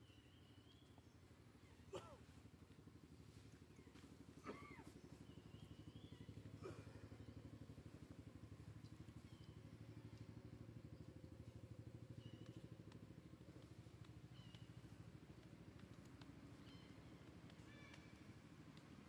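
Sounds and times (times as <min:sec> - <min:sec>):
small engine running: 0:01.9 - 0:19.0.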